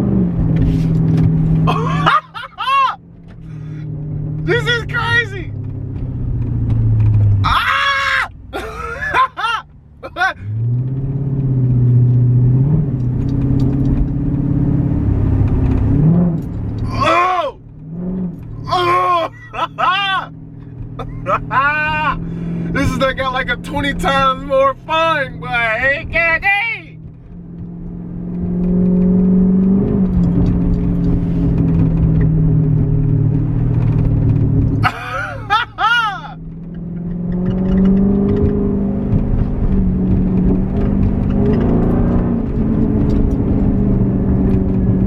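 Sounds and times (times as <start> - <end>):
car engine deep drone accelerating: 0.0 - 45.0.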